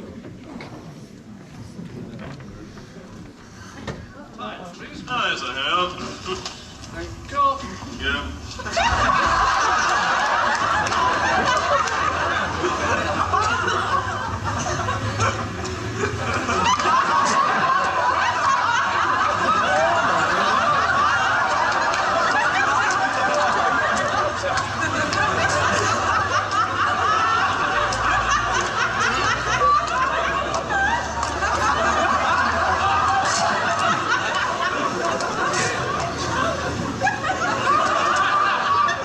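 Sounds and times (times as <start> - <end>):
audience laughing: 7.6 - 39.0.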